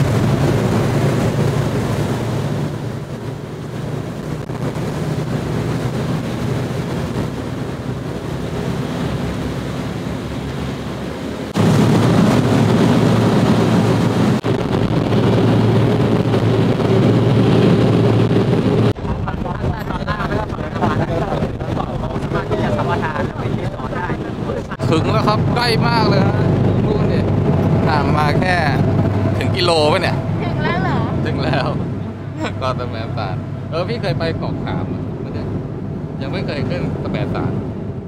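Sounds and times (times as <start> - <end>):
boat engine running: 0.0 - 38.0
water rushing past: 0.0 - 38.0
wind buffeting microphone: 0.0 - 38.0.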